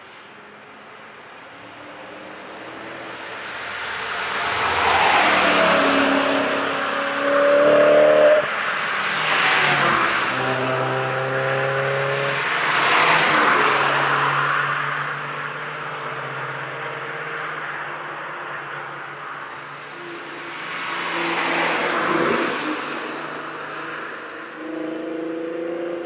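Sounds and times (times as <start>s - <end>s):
cars passing at speed: 1.5s - 26.0s.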